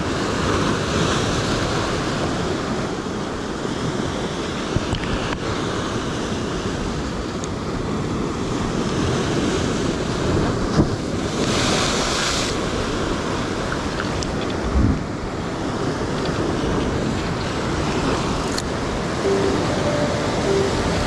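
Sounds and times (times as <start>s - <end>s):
ocean surf washing on rocks: 0.0s - 20.8s.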